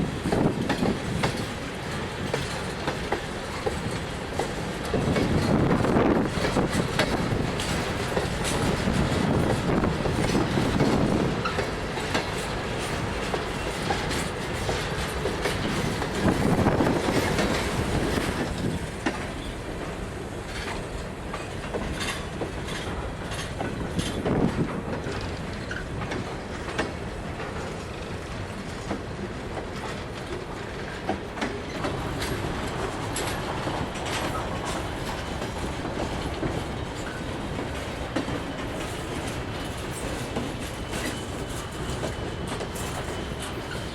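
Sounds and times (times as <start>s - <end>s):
freight train rumble: 0.0s - 43.9s
train wheels clacking over rail joints: 0.0s - 43.9s.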